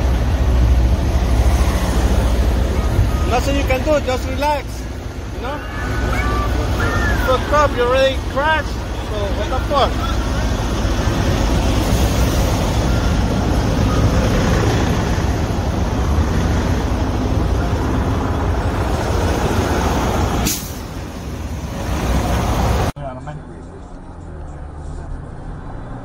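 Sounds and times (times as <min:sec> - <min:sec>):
roadside traffic rumble: 0:00.0 - 0:26.0.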